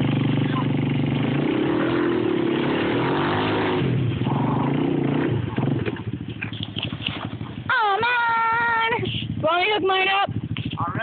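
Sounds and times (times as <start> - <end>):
atv engines revving: 0.0 - 11.0.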